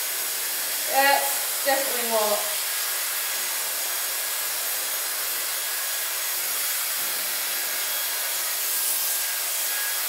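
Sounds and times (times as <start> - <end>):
hair styler blowing air: 0.0 - 10.0.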